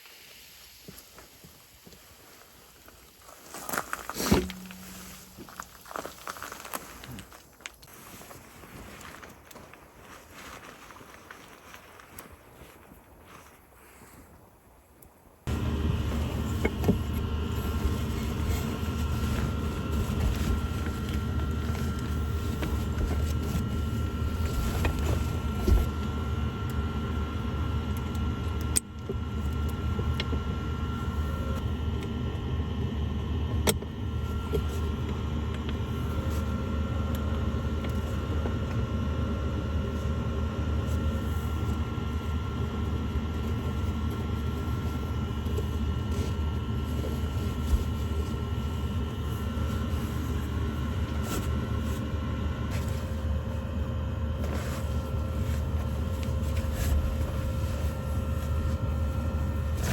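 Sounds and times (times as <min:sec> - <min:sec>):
low mechanical rumble with whine: 0:02.2 - 0:12.8, 0:15.4 - 0:59.9.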